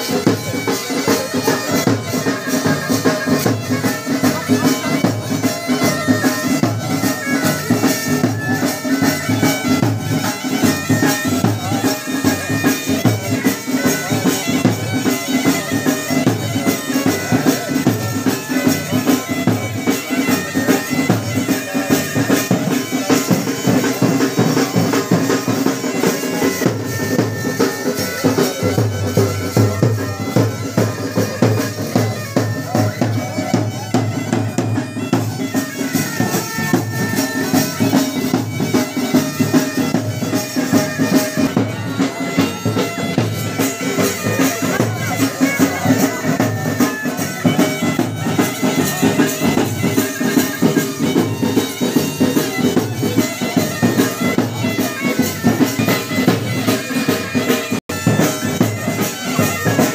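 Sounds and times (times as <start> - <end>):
fast drum beat: 0.0 - 59.9
reedy wind instrument: 0.0 - 59.9.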